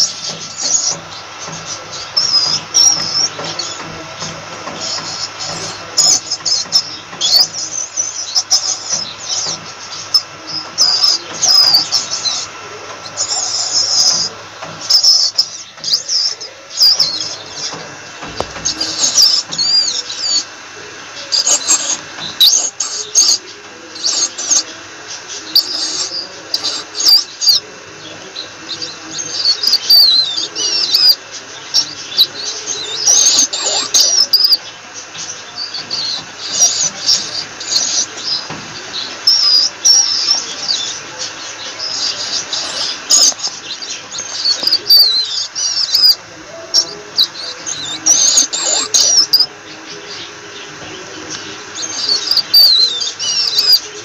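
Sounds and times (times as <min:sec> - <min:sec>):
rat squeaking: 0:00.0 - 0:20.5, 0:21.2 - 0:54.0.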